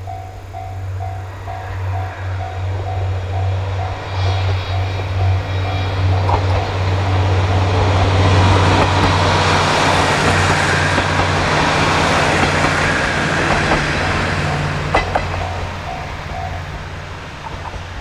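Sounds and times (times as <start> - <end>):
diesel engine hum: 0.0 - 18.0
wheels clattering on rails: 0.0 - 18.0.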